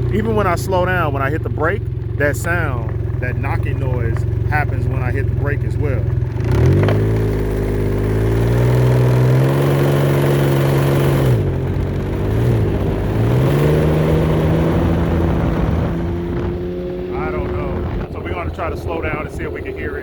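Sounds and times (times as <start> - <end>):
three-wheeler engine running: 0.0 - 20.0.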